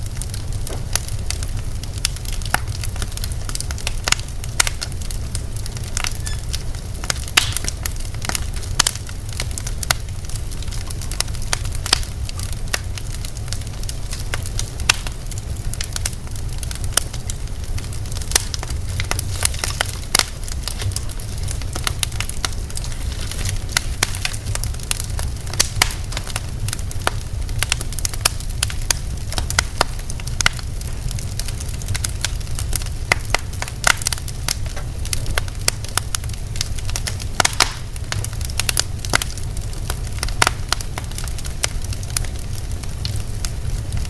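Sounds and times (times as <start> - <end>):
low rumble: 0.0 - 40.3
wood fire crackling and popping: 0.0 - 44.0.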